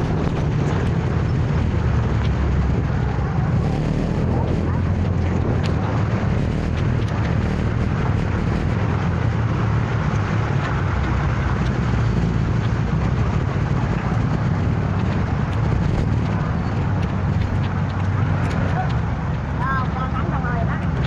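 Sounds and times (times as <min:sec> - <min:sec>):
scooter engine and road noise: 0:00.0 - 0:21.0.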